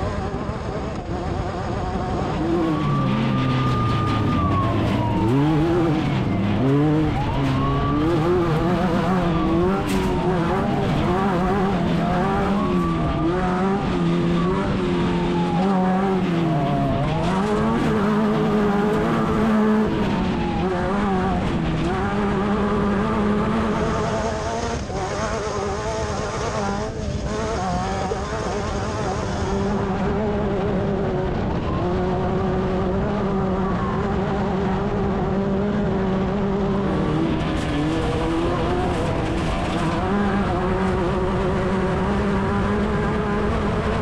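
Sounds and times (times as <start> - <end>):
race car engine revving: 0.0 - 44.0.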